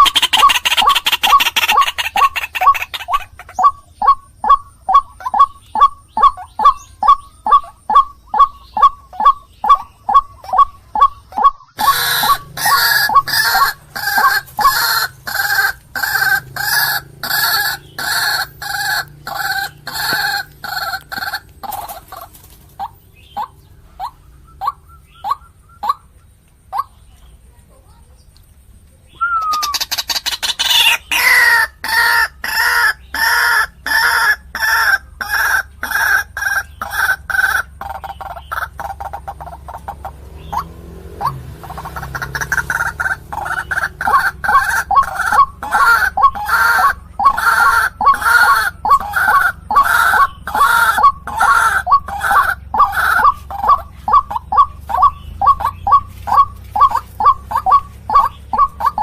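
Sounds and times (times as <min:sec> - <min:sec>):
waterhen harsh calls: 0:00.0 - 0:26.1, 0:29.2 - 0:59.0.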